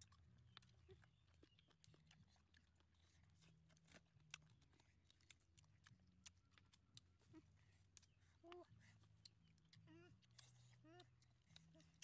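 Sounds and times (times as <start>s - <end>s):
people chewing and crunching: 0.0s - 12.0s.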